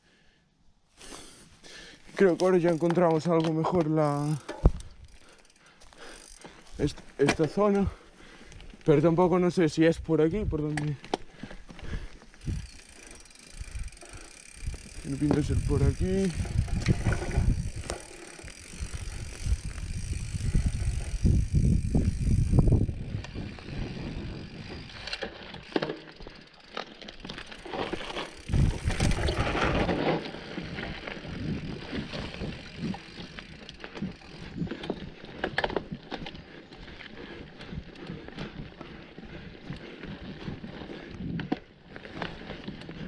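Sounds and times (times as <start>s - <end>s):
mountain bike clattering over dirt: 2.0s - 43.0s.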